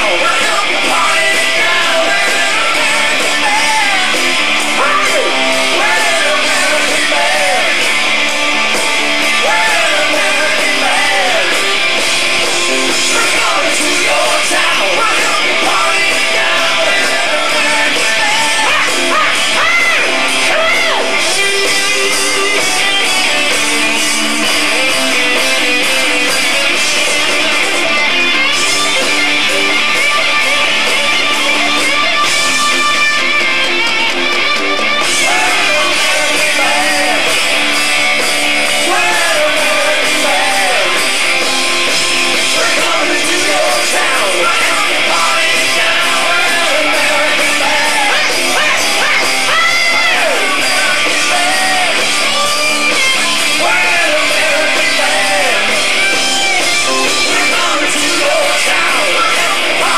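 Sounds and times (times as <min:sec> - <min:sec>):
rock band playing live: 0:00.0 - 0:59.9
wavering lead guitar lines: 0:00.0 - 0:59.9.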